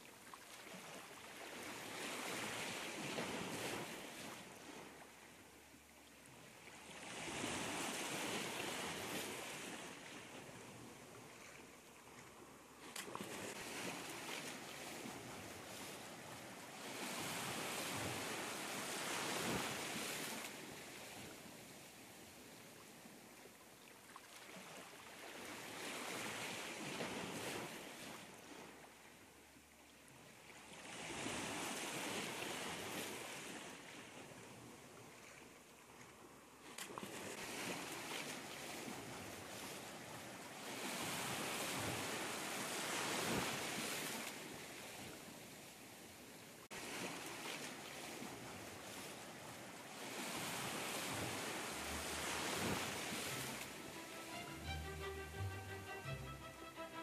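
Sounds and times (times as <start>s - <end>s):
small sea waves breaking: 0.0s - 57.0s.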